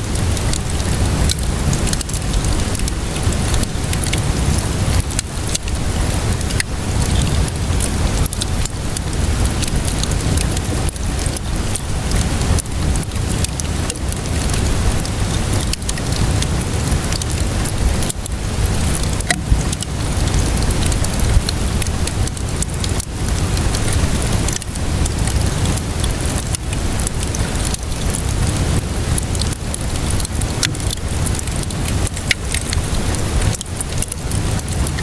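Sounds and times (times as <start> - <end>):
steady rainfall: 0.0 - 35.0
wood fire crackling and popping: 0.0 - 35.0.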